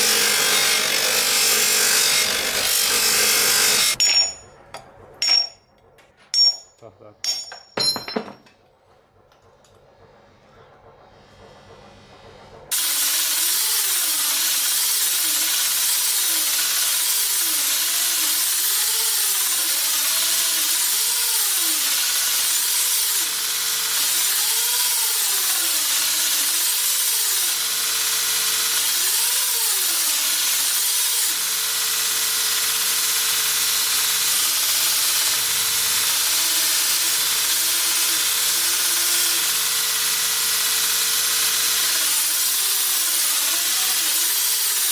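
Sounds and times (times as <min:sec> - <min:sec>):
power grinder on steel: 0:00.0 - 0:04.0, 0:12.7 - 0:44.9.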